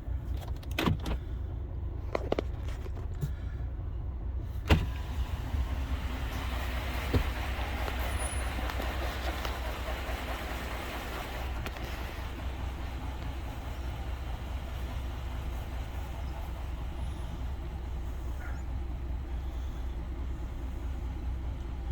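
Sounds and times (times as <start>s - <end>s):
engine low rumble: 0.0s - 21.9s.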